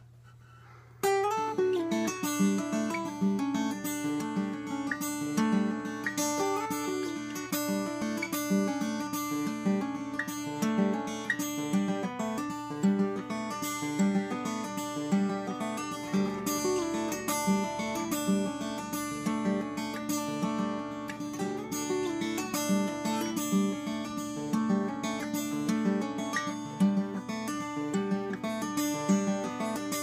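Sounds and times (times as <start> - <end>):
acoustic guitar picked and strummed: 0.0 - 30.0.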